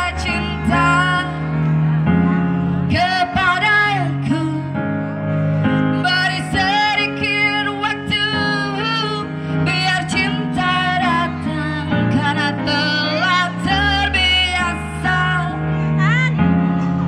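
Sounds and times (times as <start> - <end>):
woman singing: 0.0 - 1.6, 2.8 - 4.9, 6.0 - 16.6.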